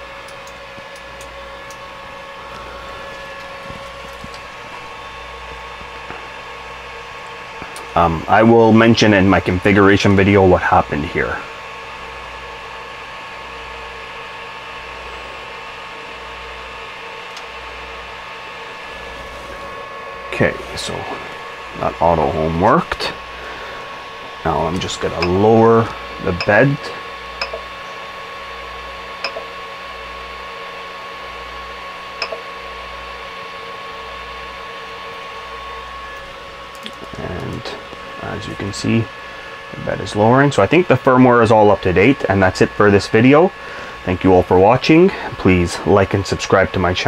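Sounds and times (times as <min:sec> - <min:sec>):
printer motors and fans whining: 0:00.0 - 0:47.0.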